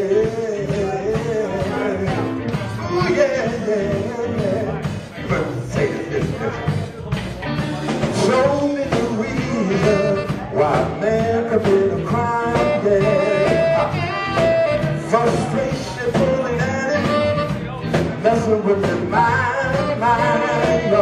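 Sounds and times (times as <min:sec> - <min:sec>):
bending electric guitar lead: 0:00.0 - 0:21.0
live blues band playing: 0:00.0 - 0:21.0.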